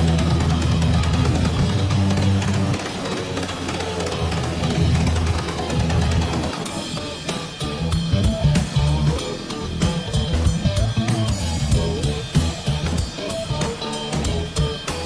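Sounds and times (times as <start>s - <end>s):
bass line: 0.0s - 15.0s
drum kit beat: 0.0s - 15.0s.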